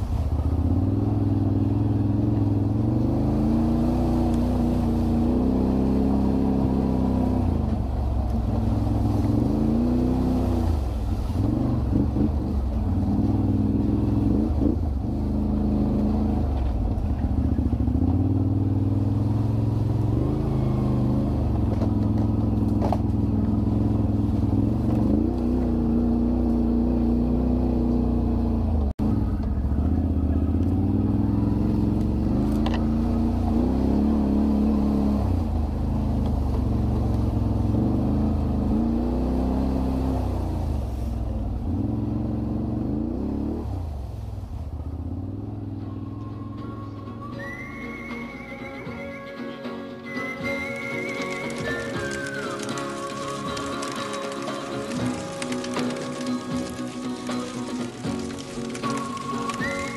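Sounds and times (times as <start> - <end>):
atv engine revving: 0.0 - 48.8, 50.3 - 59.9.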